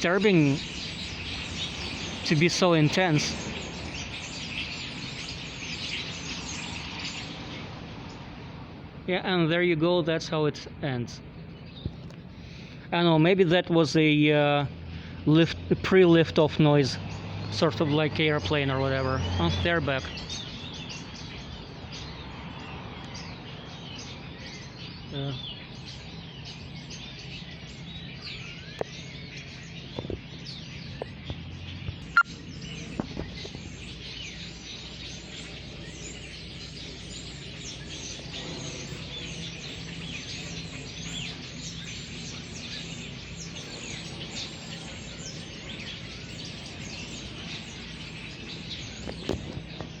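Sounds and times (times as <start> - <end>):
flock of birds chirping: 0.0 - 50.0.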